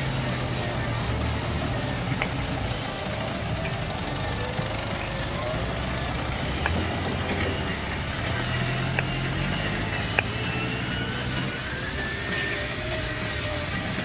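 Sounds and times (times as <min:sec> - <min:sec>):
model truck electric motor whine: 0:00.0 - 0:14.0.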